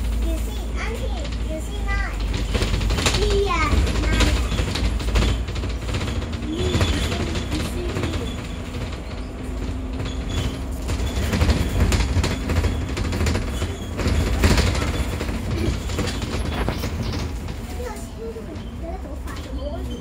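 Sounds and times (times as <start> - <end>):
bus engine and road rumble: 0.0 - 20.0
rattles and clatter: 0.0 - 20.0.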